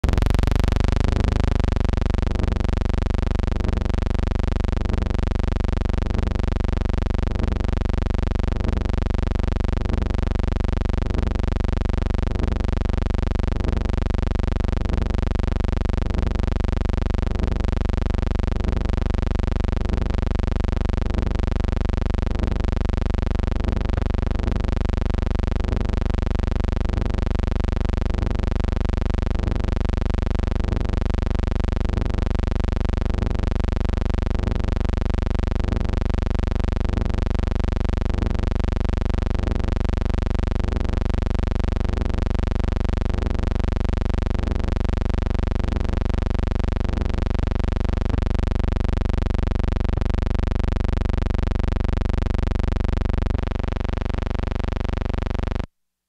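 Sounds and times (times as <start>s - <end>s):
low electrical hum: 0.0s - 31.5s, 32.1s - 55.7s.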